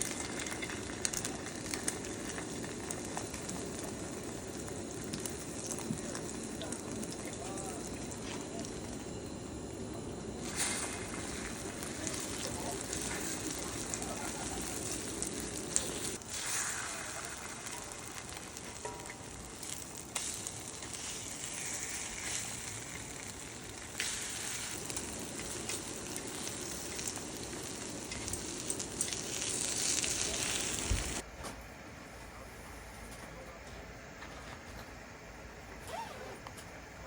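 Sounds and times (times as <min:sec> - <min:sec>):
meat sizzling: 0:00.0 - 0:31.2.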